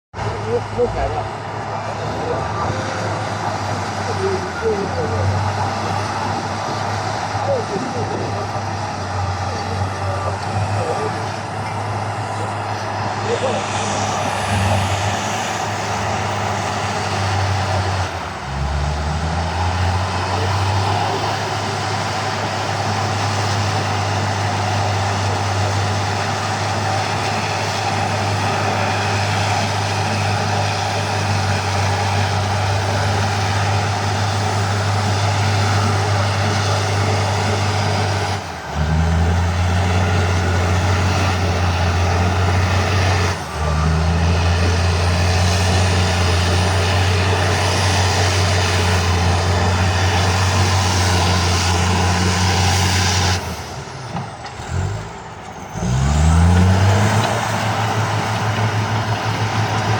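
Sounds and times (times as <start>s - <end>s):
diesel engine humming: 0.1s - 59.9s.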